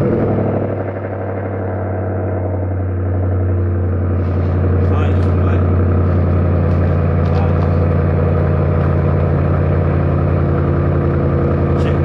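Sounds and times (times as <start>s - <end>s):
tire inflator compressor running: 0.0s - 12.0s.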